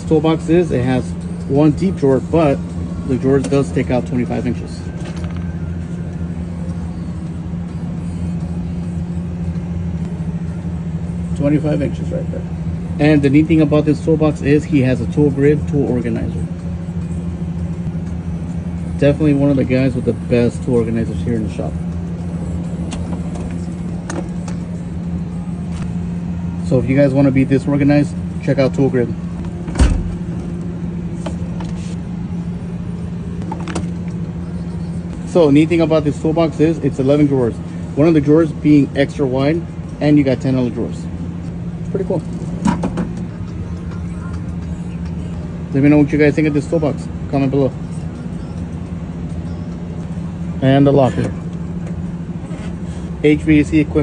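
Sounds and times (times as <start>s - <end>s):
machinery humming: 0.0s - 54.0s.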